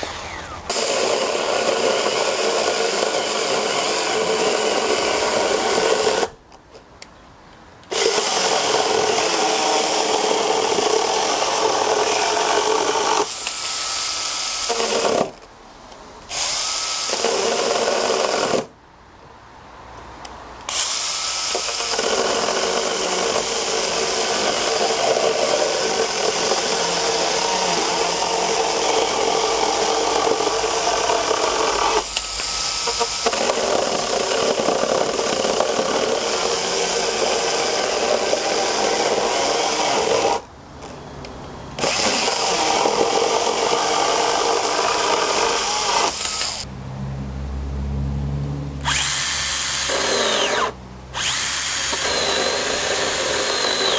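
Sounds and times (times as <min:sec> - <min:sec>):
chainsaw cutting wood: 0:00.0 - 0:06.4, 0:07.9 - 0:15.5, 0:16.3 - 0:18.7, 0:20.6 - 0:40.5, 0:41.8 - 0:46.7, 0:48.8 - 0:53.9.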